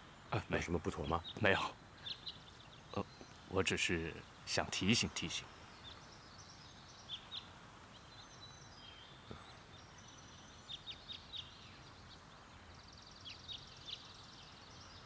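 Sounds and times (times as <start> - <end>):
background hiss: 0.0 - 15.0
small birds chirping: 0.0 - 15.0.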